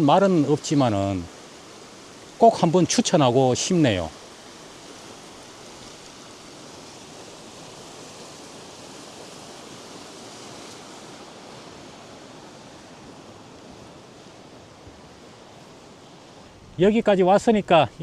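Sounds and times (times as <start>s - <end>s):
sea surf: 0.0s - 18.0s
wind: 0.0s - 18.0s.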